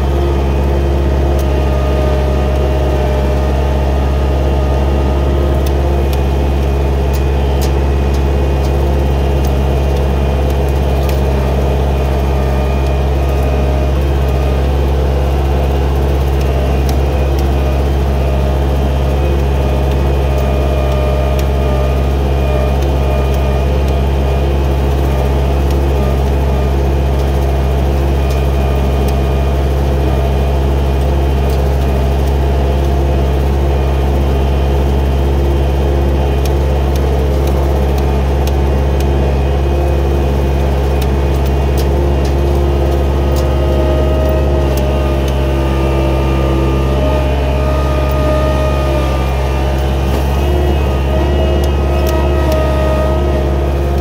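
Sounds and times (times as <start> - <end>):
engine and brush cutter droning: 0.0 - 54.0.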